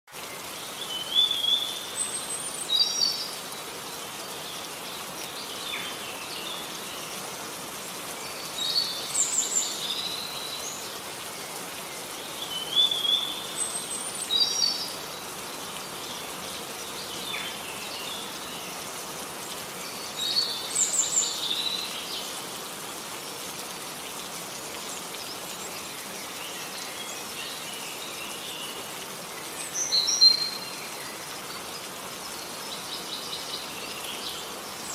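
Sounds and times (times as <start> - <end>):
rain falling: 0.1 - 34.9
songbird singing: 0.2 - 34.9.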